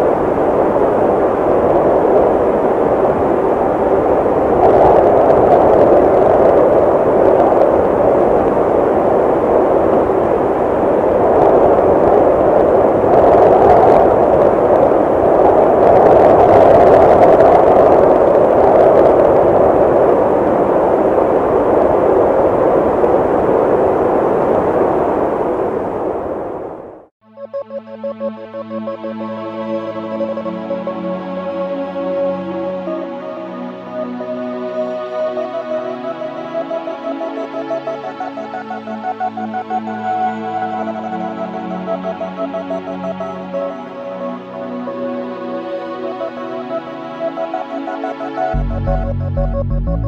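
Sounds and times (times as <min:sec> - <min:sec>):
strong wind on microphone: 0:00.0 - 0:27.1, 0:28.5 - 0:50.0.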